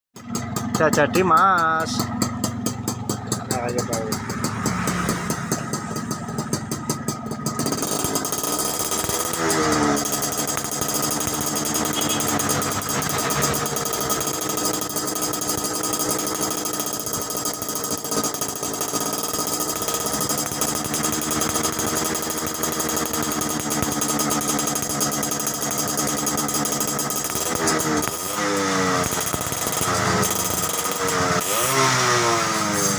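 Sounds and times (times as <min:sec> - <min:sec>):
motorcycle engine revving: 0:00.2 - 0:32.9.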